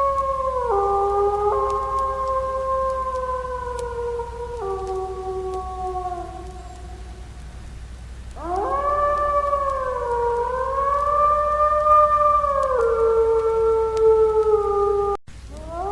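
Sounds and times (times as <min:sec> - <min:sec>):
wolf howling: 0:00.0 - 0:07.4, 0:08.3 - 0:15.9.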